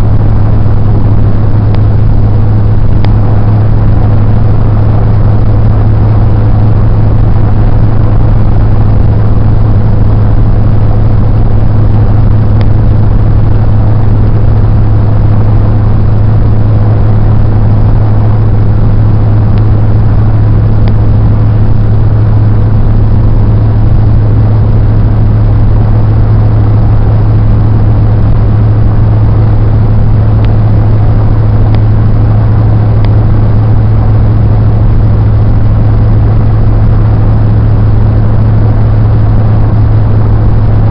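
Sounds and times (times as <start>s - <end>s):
car cabin road and engine hum: 0.0s - 40.9s.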